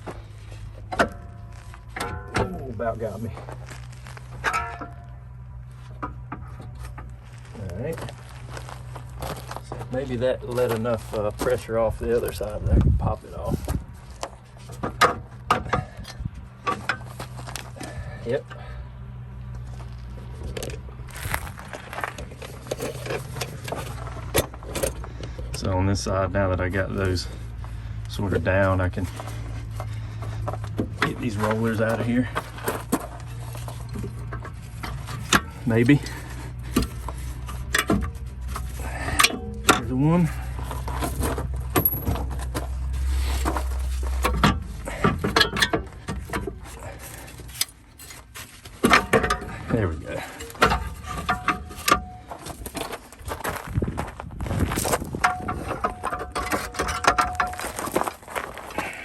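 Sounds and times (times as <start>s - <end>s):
metal tools clinking and scraping: 0.2s - 12.6s, 13.2s - 18.8s, 19.5s - 25.7s, 26.6s - 53.6s, 55.0s - 59.0s.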